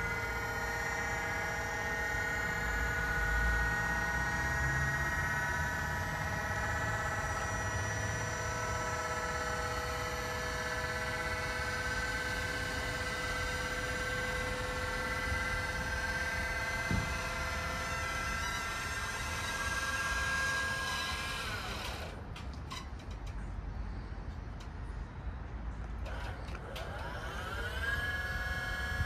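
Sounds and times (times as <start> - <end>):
hydraulic pump motor whining: 0.0 - 23.2, 25.9 - 29.0.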